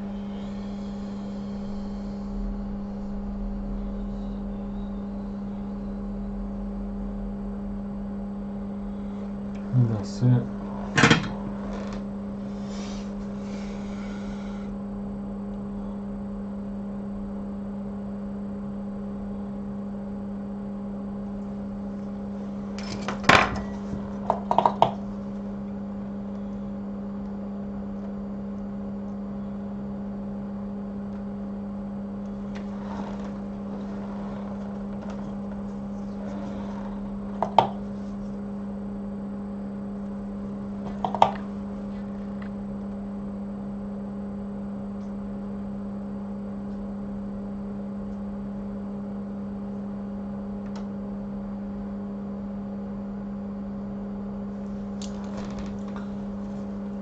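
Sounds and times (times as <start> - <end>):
electrical hum of bench equipment: 0.0 - 57.0.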